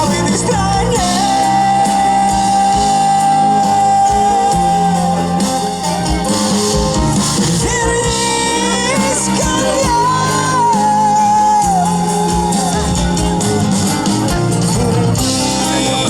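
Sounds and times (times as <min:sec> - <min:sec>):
acoustic guitar accompaniment: 0:00.0 - 0:16.0.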